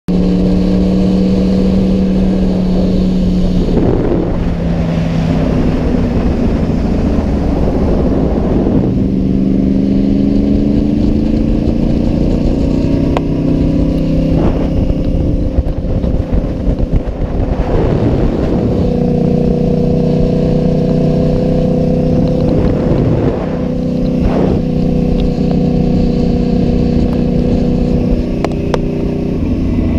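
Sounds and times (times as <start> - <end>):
motorcycle engine revving: 0.1 - 29.9
wind rushing: 0.8 - 29.9.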